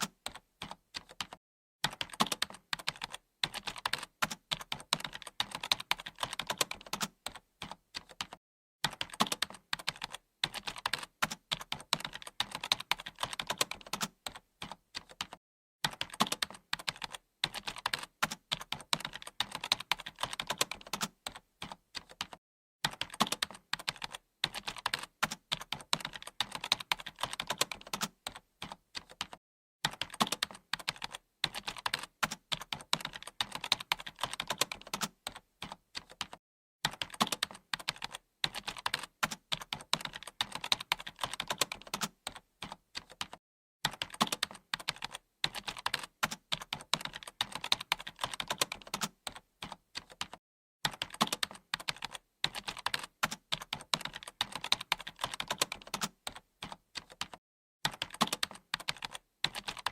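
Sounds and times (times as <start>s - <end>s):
fast typing on keyboard: 0.0s - 59.9s.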